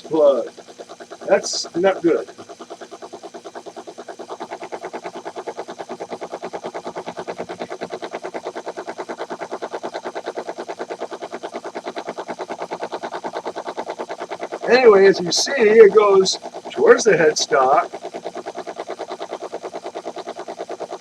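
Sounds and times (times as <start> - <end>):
lathe power feed rapid clicking: 0.0 - 21.0.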